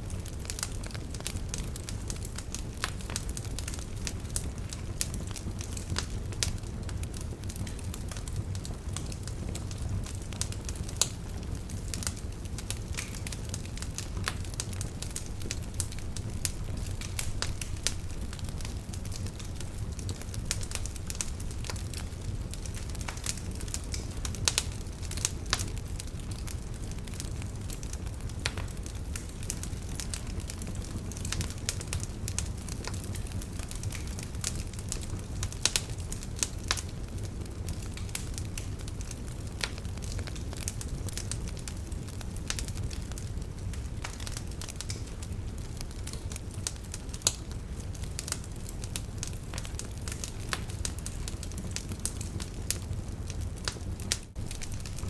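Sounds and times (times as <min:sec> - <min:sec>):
log fire crackling: 0:00.0 - 0:55.0.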